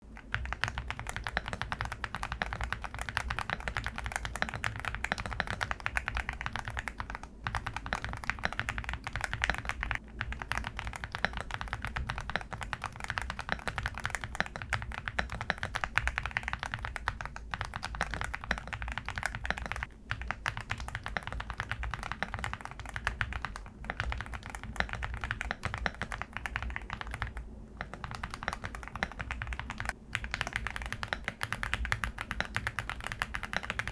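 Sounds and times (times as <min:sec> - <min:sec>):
fast mechanical keyboard typing: 0:00.1 - 0:33.9.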